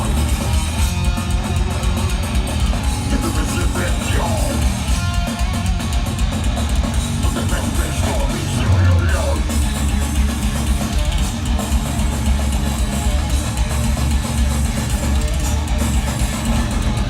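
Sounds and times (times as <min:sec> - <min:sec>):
drum kit: 0:00.0 - 0:17.0
electric guitars: 0:00.0 - 0:17.0.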